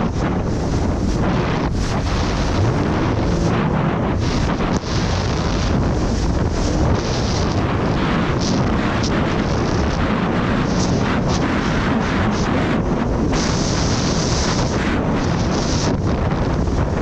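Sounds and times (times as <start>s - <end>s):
jet ski engine: 0.0s - 17.0s
wind buffeting microphone: 0.0s - 17.0s.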